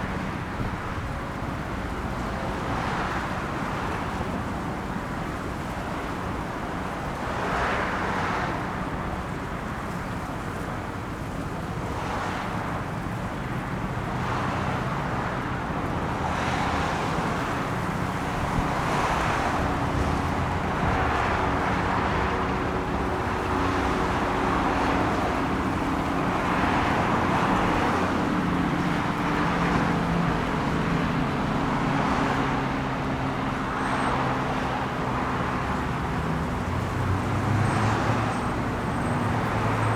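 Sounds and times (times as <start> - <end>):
cars passing: 0.0 - 39.9
steady low traffic rumble: 0.0 - 39.9.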